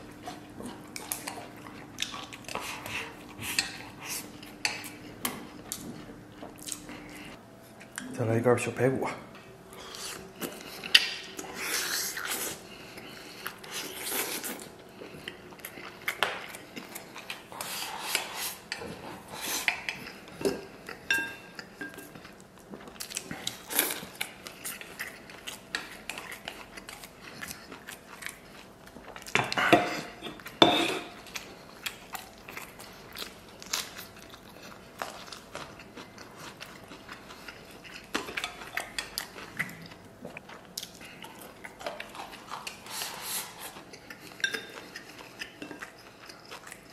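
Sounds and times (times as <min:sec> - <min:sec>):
chewing: 0:00.0 - 0:08.1, 0:09.7 - 0:46.9.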